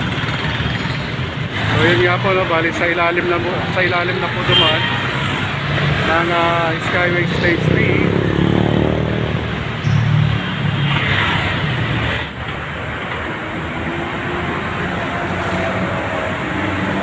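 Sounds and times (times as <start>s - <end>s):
road traffic rumble and hiss: 0.0s - 17.0s.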